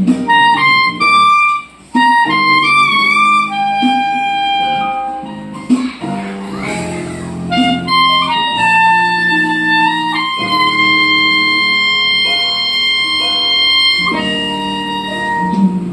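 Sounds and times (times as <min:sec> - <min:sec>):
clarinet melody: 0:00.0 - 0:15.9.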